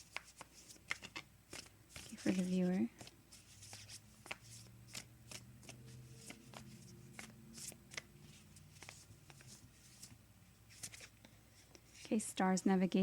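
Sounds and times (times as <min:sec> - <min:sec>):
cards being shuffled: 0:00.0 - 0:12.2.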